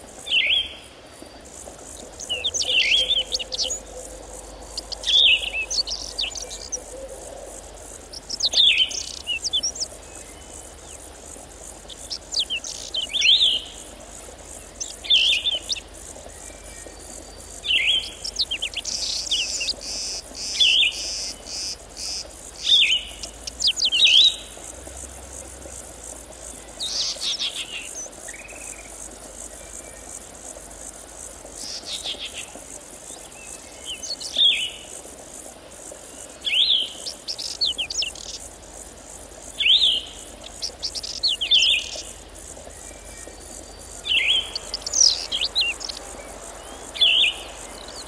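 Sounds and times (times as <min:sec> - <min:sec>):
songbird singing: 0:00.0 - 0:35.2, 0:35.8 - 0:48.0
high buzz of insects: 0:00.0 - 0:48.0.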